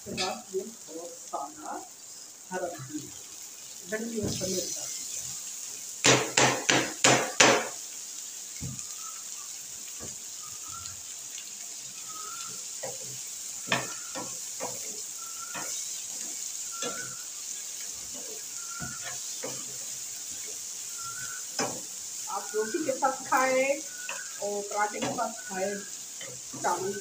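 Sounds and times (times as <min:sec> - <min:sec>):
food sizzling in frying pan: 0:00.0 - 0:27.0.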